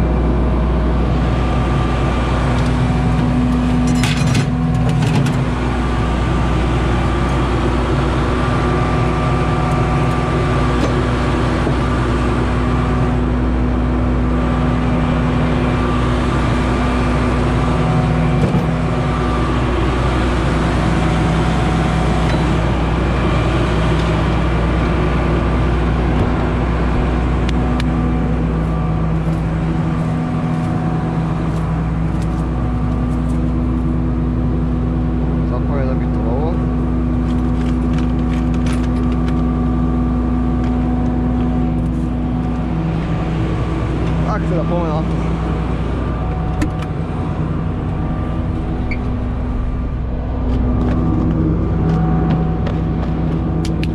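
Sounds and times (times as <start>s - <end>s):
combine harvester running: 0.0s - 53.9s.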